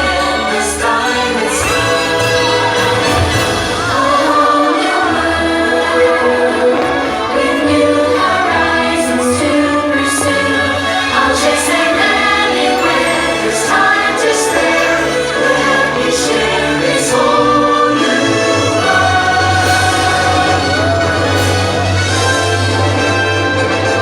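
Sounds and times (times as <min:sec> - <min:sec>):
choir singing held notes: 0:00.0 - 0:24.0
orchestral music: 0:00.0 - 0:24.0.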